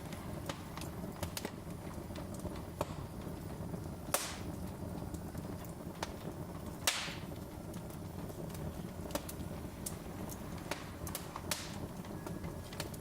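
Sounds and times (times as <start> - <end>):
loud fire pops with hiss: 0.0 - 13.0
wood fire crackling: 0.0 - 13.0.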